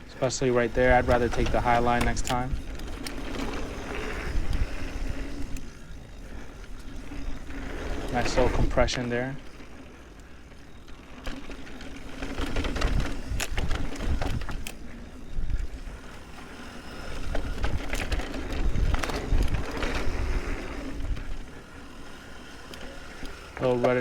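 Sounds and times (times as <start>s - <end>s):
bike tyres rumbling over dirt: 0.0s - 24.0s
bike rattling and knocking: 0.2s - 5.5s, 6.4s - 9.6s, 11.0s - 16.0s, 16.6s - 24.0s.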